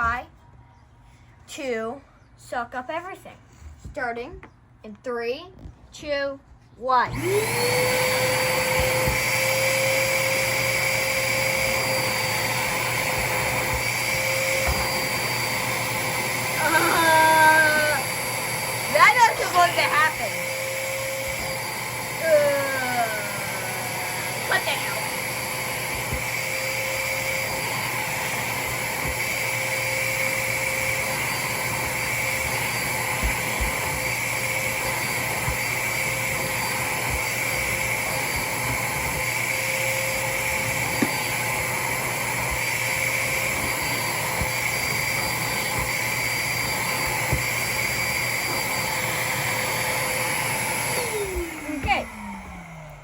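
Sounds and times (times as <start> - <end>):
shop vacuum running: 7.1 - 53.0.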